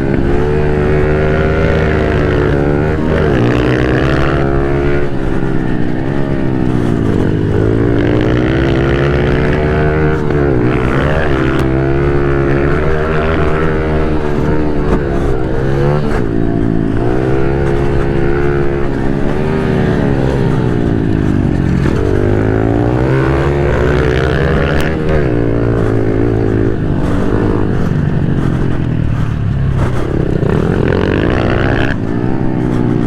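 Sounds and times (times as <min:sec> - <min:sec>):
pit bike engine revving: 0:00.0 - 0:33.0.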